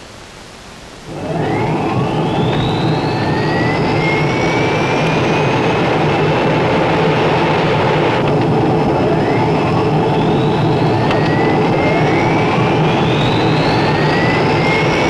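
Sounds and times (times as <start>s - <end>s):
turbine whine rising: 1.0s - 15.0s
steady low drone: 1.1s - 15.0s.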